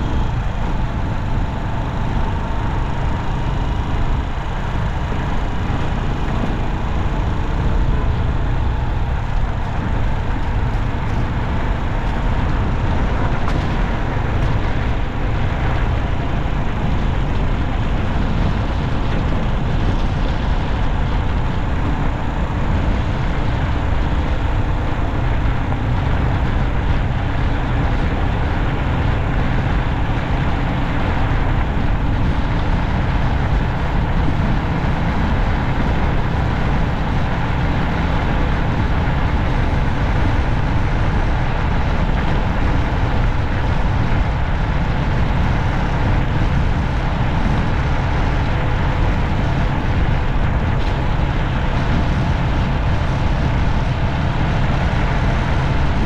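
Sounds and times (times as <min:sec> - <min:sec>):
vehicle driving road noise: 0:00.0 - 0:56.0.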